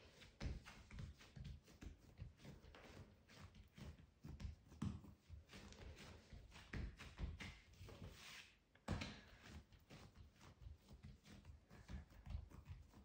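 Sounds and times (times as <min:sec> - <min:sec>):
hands rubbing dough: 0:00.0 - 0:08.6, 0:09.2 - 0:13.0.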